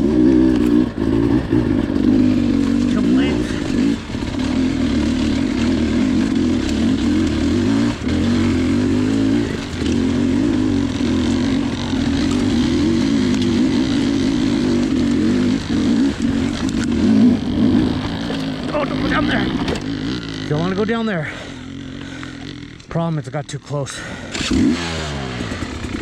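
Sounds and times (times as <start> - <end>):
motorcycle engine revving: 0.0 - 23.2, 23.9 - 26.0.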